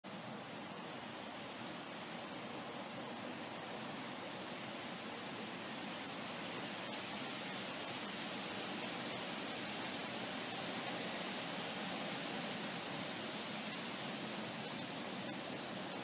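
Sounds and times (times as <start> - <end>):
wind blowing: 0.1 - 16.0.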